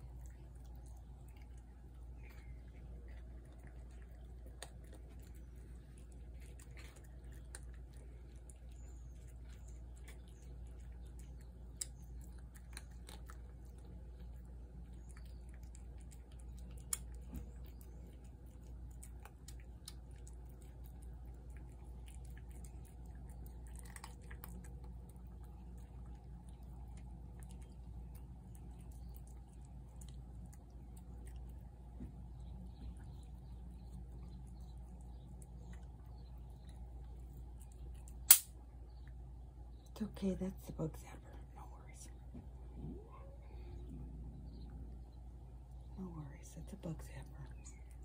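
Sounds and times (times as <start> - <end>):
cats chewing: 0.0 - 46.1, 46.7 - 48.0
steady low hum: 0.0 - 48.0.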